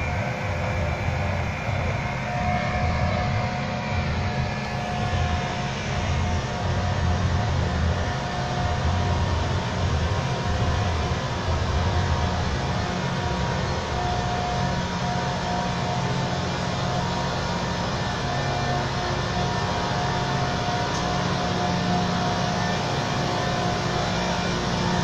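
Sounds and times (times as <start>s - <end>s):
low drone: 0.0s - 25.0s
rail grinding rush: 0.0s - 25.0s
thin steady whine: 0.0s - 25.0s.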